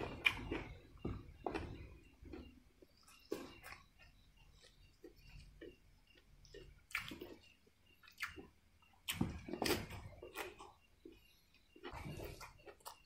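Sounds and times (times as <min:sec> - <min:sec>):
wet chewing and mouth smacking: 0:00.0 - 0:13.0.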